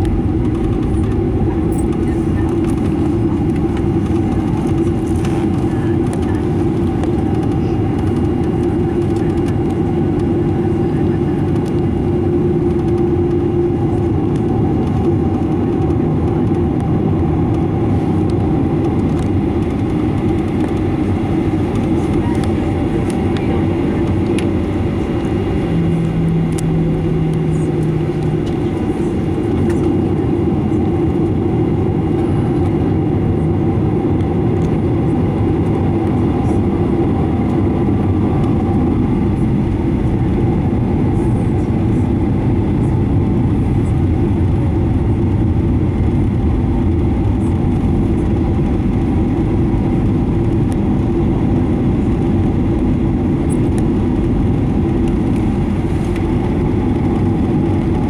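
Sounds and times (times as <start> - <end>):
airflow around fuselage: 0.0 - 58.0
jet engines rumbling: 0.0 - 58.0
low hum: 0.0 - 58.0.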